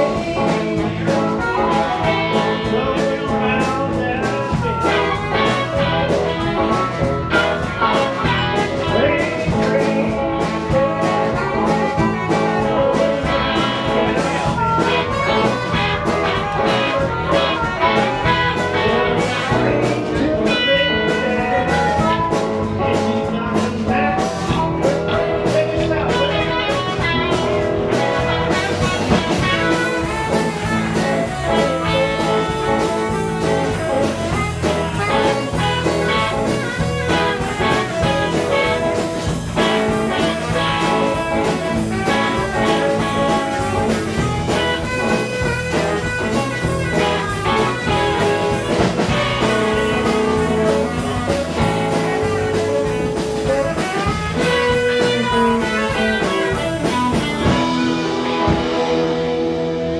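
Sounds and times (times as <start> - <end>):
bass: 0.0 - 59.9
drum kit: 0.0 - 59.9
electric guitars: 0.0 - 59.9
saxophone: 0.0 - 59.9.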